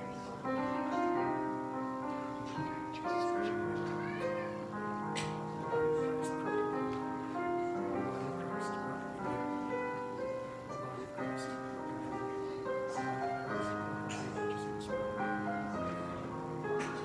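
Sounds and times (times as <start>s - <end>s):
slow instrumental hymn music: 0.0s - 17.0s.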